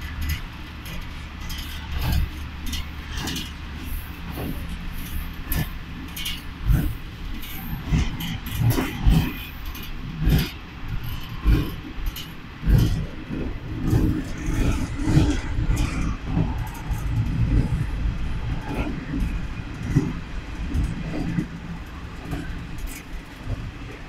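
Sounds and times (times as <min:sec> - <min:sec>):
railcar rumbling along track: 0:00.0 - 0:24.0.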